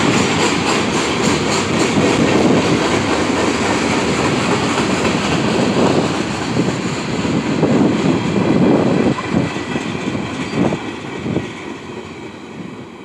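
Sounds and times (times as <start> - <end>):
diesel locomotive engine drone: 0.0 - 13.0
train wheel and rail noise: 0.0 - 13.0.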